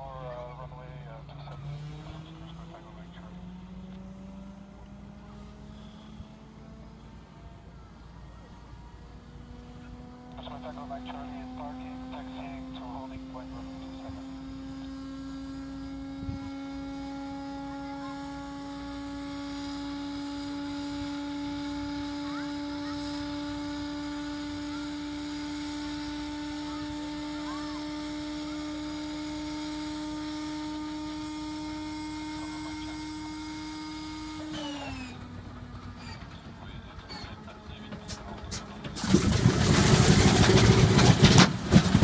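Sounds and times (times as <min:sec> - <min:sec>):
inertia starter whine rising: 0:00.0 - 0:42.0.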